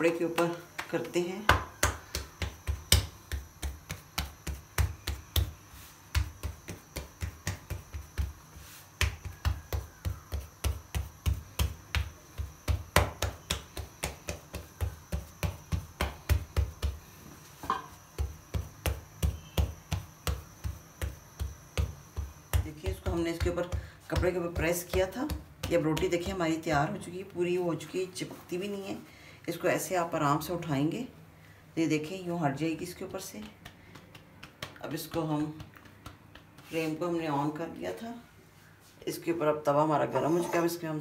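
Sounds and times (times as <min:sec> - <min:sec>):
palms patting dough: 0:00.0 - 0:28.8, 0:32.0 - 0:38.2.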